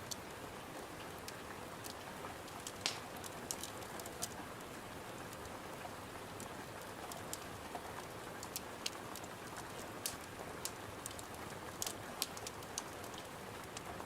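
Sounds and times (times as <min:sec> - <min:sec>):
wood fire crackling and popping: 0:00.0 - 0:00.4, 0:01.1 - 0:14.0
rain hiss: 0:00.0 - 0:14.0.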